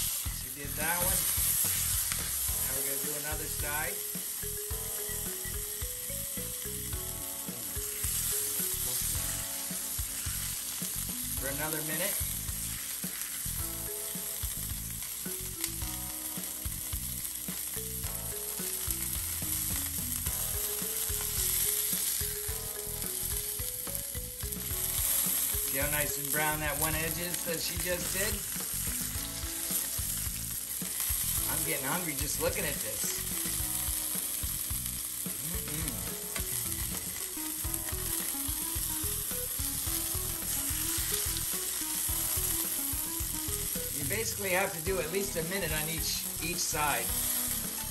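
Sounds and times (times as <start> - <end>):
beef sizzling in a skillet: 0.0 - 47.9.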